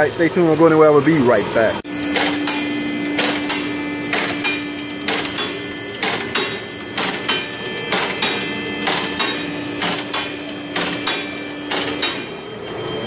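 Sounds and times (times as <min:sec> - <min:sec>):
pump motor humming: 0:01.3 - 0:12.4.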